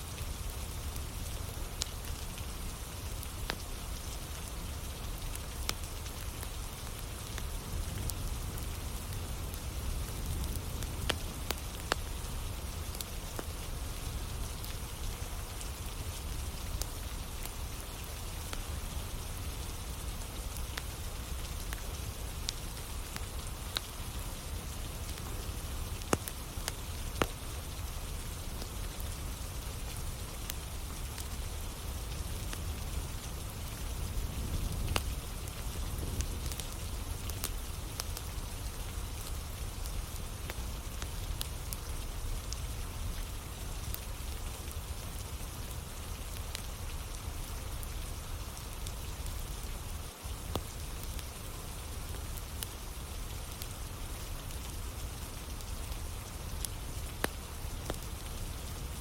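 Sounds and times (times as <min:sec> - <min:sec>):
campfire crackling: 0:00.0 - 0:59.0
steady rain: 0:00.0 - 0:59.0.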